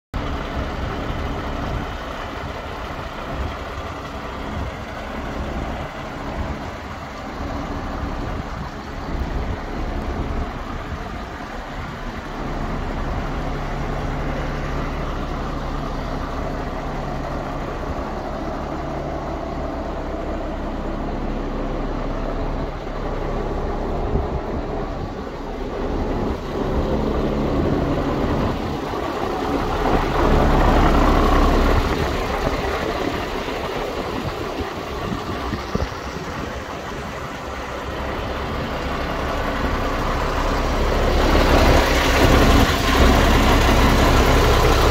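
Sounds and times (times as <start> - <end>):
diesel truck engine idling: 0.1 - 44.9.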